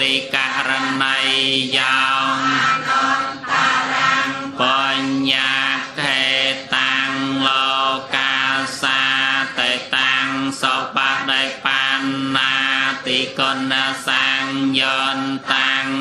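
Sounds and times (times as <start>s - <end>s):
monotone chanting: 0.0s - 16.0s.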